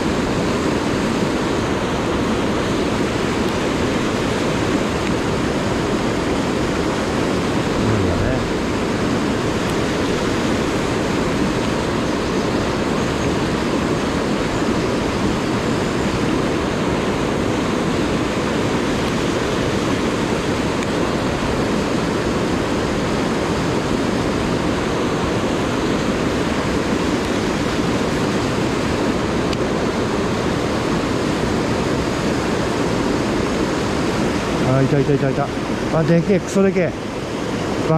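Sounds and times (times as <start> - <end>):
stream rushing over boulders: 0.0 - 37.9.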